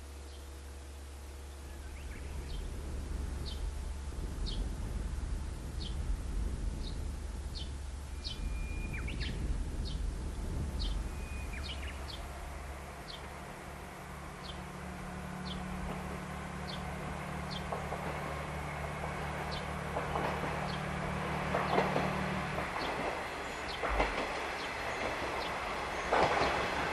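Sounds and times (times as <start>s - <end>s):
diesel railcar hum: 0.0s - 26.9s.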